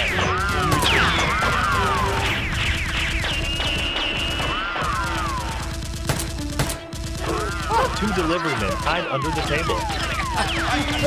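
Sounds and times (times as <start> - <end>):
background music: 0.0 - 11.0
rapid gunfire sound effects: 0.0 - 11.0.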